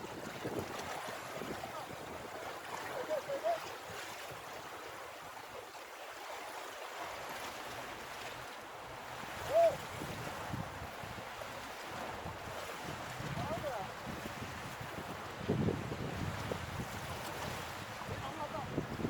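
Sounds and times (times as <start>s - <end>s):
sea water washing against rocks: 0.0s - 19.0s.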